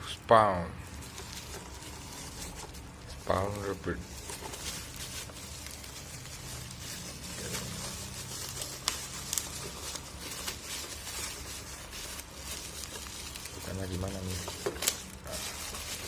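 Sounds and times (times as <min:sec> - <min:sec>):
packaging rustling and crinkling: 0:00.8 - 0:16.0.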